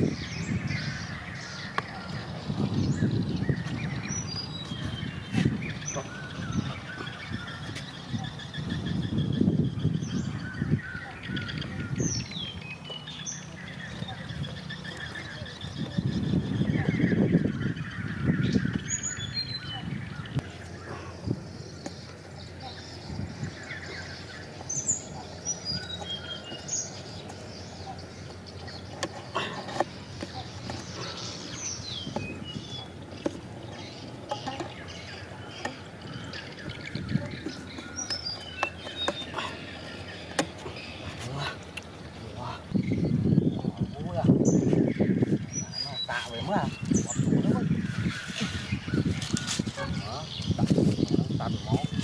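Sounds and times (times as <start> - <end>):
wild birds chirping and whistling: 0.0 - 52.0.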